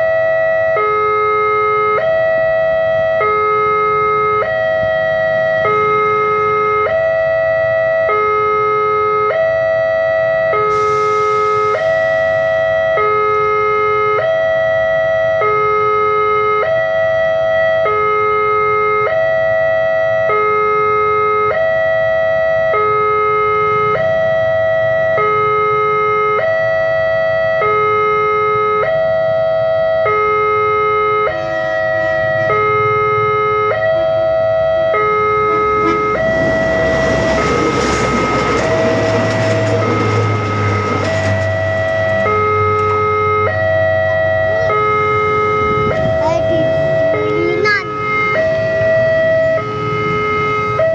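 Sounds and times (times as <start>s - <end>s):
level crossing alarm two tones: 0.0s - 50.9s
low traffic rumble: 0.0s - 50.9s.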